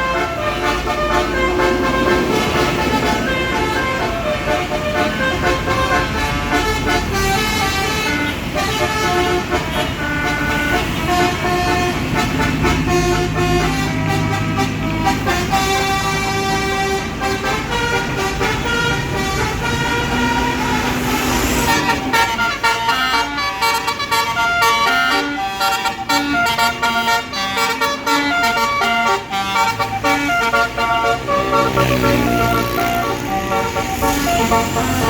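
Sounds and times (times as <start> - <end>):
bus engine running: 0.0 - 35.0
multi-tone bus horn tune: 0.0 - 35.0.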